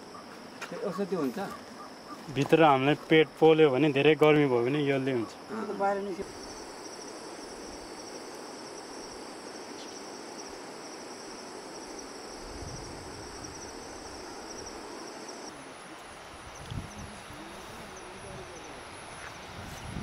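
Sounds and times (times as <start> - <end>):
insects chirping in a trill: 0.0 - 20.0
outdoor hiss: 2.3 - 20.0.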